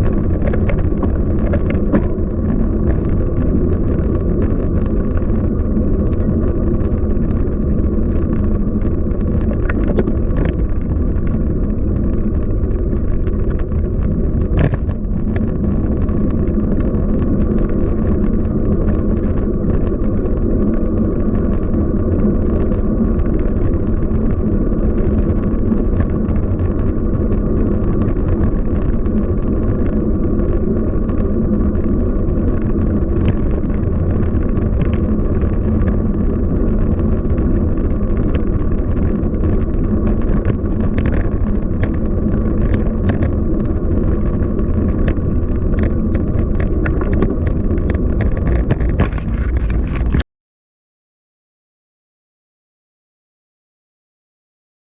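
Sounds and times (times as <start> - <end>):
road and wind noise: 0.0 - 50.2.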